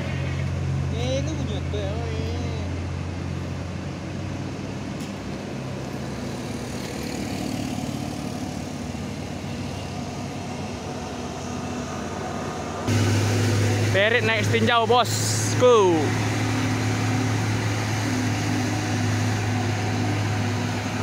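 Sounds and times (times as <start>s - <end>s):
road noise: 0.0s - 21.0s
truck engines humming: 0.0s - 21.0s.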